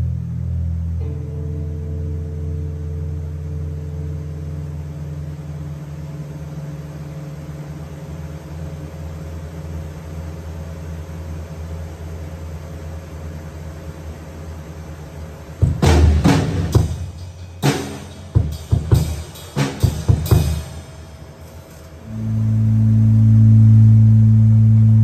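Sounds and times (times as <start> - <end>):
low musical drone: 0.0 - 15.6, 16.2 - 25.0.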